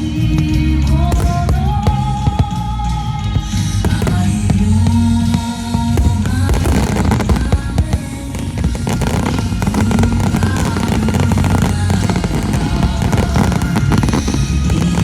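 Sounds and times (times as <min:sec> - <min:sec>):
fireworks booming and crackling: 0:00.0 - 0:15.0
music with low notes: 0:00.0 - 0:15.0.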